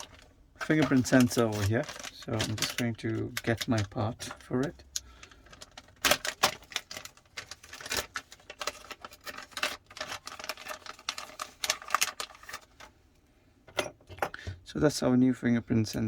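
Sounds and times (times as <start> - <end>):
packaging rustling: 0.0 - 12.9.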